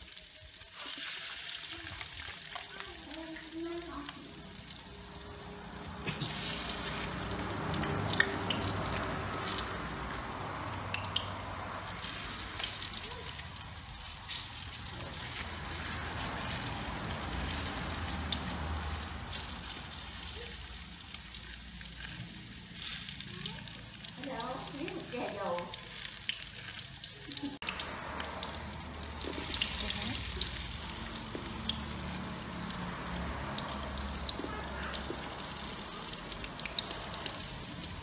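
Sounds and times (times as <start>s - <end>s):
hot oil sizzling in a wok: 0.0s - 38.0s
oil popping and crackling: 0.0s - 38.0s.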